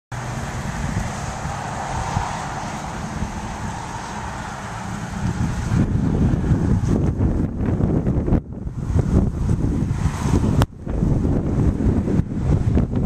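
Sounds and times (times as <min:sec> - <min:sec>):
road traffic hiss: 0:00.1 - 0:13.0
wind buffeting microphone: 0:00.2 - 0:13.0.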